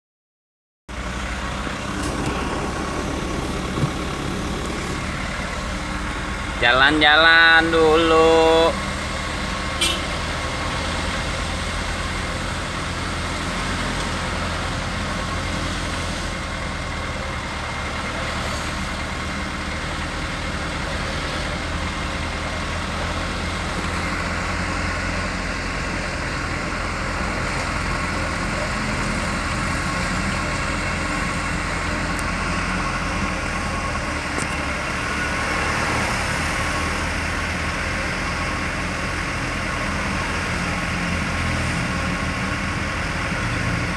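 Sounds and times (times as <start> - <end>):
road noise rumble: 0.9 - 43.9
vehicle engine running: 0.9 - 43.9.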